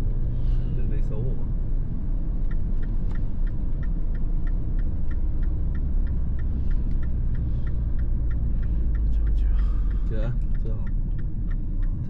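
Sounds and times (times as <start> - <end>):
engine and road rumble: 0.0 - 12.0
turn signal ticking: 0.0 - 12.0.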